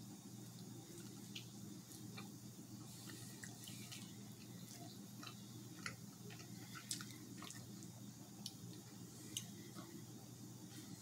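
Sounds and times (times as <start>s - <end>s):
steady low hum: 0.0s - 11.0s
person chewing food: 0.4s - 10.0s.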